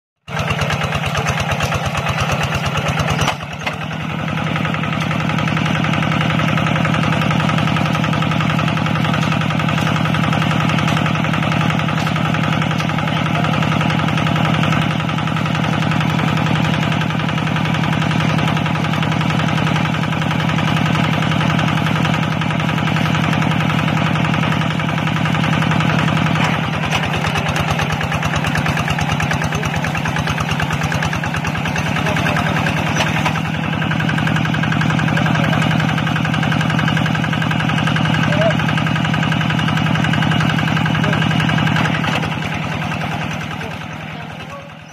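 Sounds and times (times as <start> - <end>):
diesel tractor engine running: 0.2 - 44.9.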